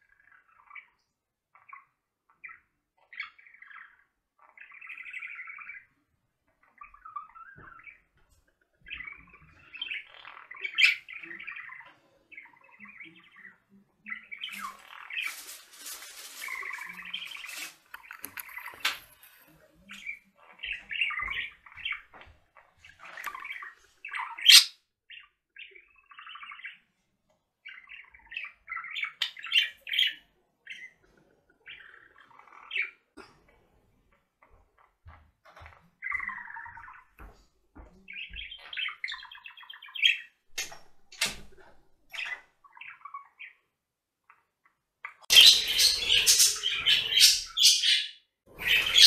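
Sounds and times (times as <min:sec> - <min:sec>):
budgerigars chirping: 0:00.0 - 0:08.1, 0:08.8 - 0:15.6, 0:16.4 - 0:26.9, 0:27.6 - 0:31.0, 0:31.6 - 0:33.1, 0:34.4 - 0:37.3, 0:38.1 - 0:40.4, 0:42.1 - 0:43.6, 0:45.1 - 0:49.0.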